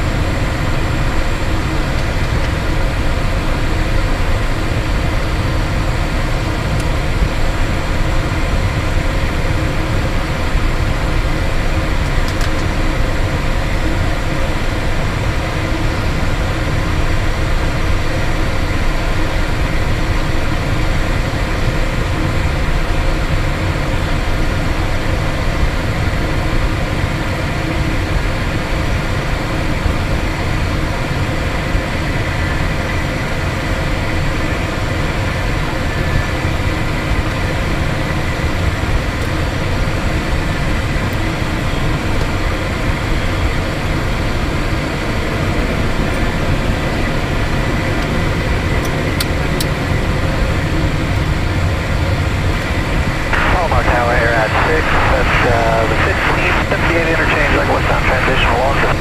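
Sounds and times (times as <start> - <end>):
jet engines rumbling with high whine: 0.0 - 59.0.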